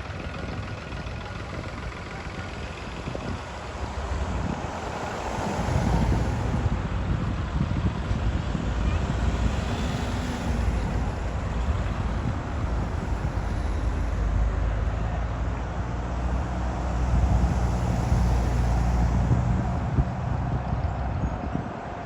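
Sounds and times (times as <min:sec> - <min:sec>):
vehicle engine running: 0:00.0 - 0:21.6
wind noise on microphone: 0:00.0 - 0:22.0.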